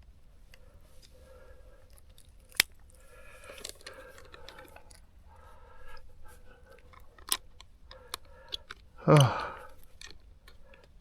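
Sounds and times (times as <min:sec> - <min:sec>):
faint steady hum: 0:00.0 - 0:11.0
handling clicks and rustles: 0:00.0 - 0:11.0.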